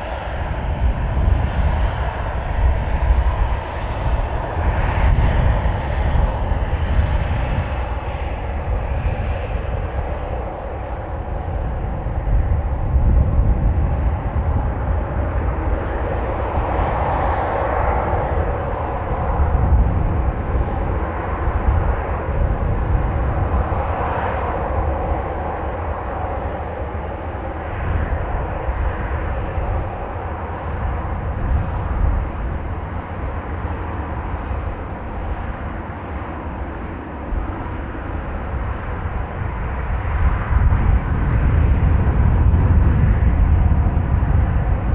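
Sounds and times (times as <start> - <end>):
jet airliner engines running: 0.0 - 44.9
wind buffeting microphone: 0.0 - 44.9.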